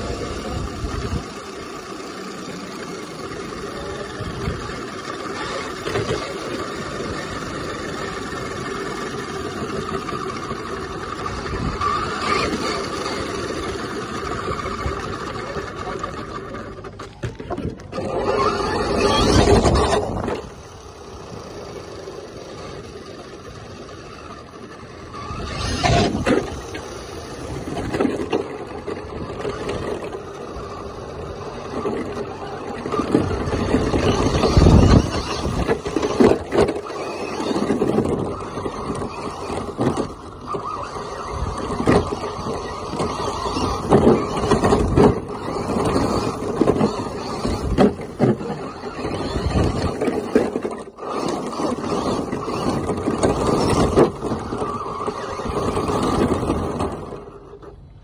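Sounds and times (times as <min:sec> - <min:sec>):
rc truck motor and tyres: 0:00.0 - 0:58.0.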